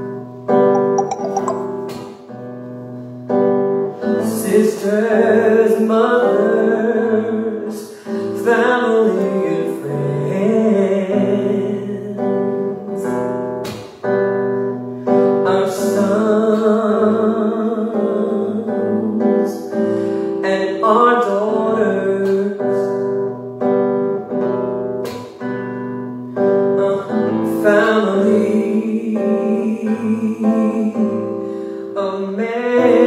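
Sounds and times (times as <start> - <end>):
acoustic guitar chords: 0.0 - 33.0.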